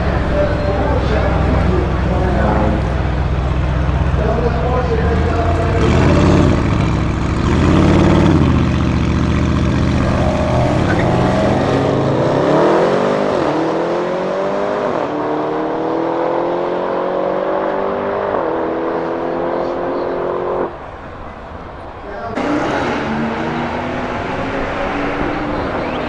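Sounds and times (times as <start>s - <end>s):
car engine revving and accelerating: 0.0s - 26.0s.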